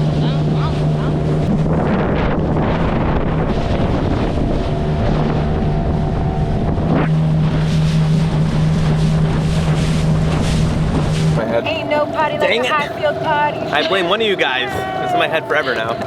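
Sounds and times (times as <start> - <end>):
outboard motor running: 0.0 - 16.0
wind buffeting microphone: 0.0 - 16.0.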